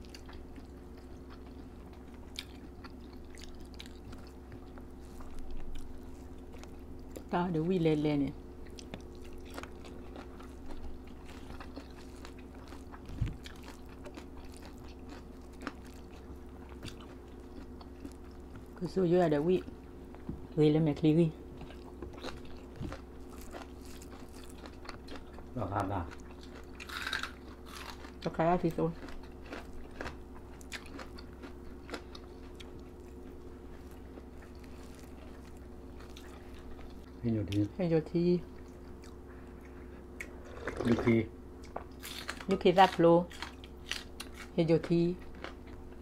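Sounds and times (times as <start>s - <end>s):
people chewing and eating: 0.0s - 8.0s, 8.6s - 20.4s, 21.5s - 37.8s, 38.5s - 46.0s
low hum: 0.0s - 46.0s.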